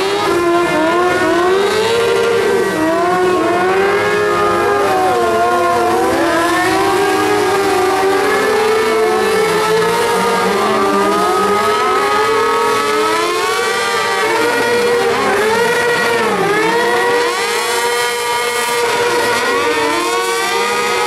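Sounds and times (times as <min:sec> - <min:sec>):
motorcycle engines revving high: 0:00.0 - 0:21.0.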